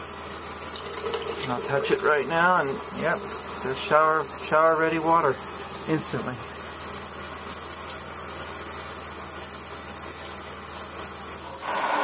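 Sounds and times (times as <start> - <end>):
shower water spraying into bathtub: 0.0 - 12.0.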